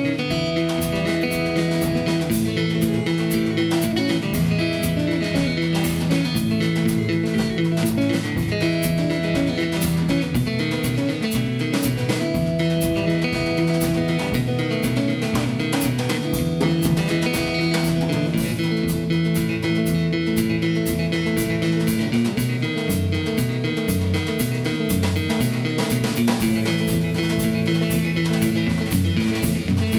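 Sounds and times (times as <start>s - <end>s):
drum kit steady beat: 0.0s - 29.9s.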